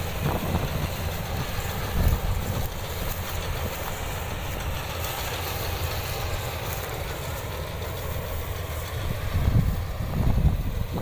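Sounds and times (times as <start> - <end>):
harvester engine rumbling: 0.0 - 11.0.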